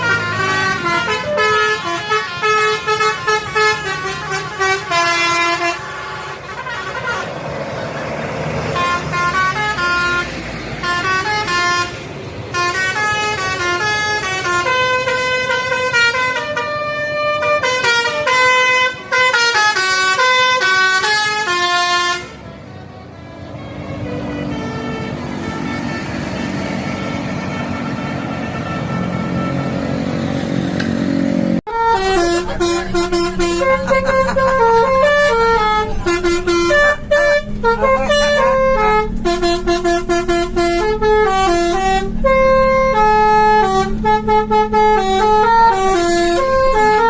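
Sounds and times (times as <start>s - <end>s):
musical bus air horn: 0.0s - 30.6s, 31.6s - 47.0s
road vehicles running: 0.0s - 47.0s.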